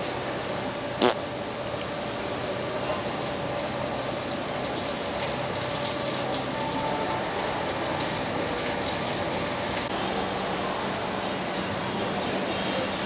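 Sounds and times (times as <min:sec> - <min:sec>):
urban background hum and hiss: 0:00.0 - 0:13.0.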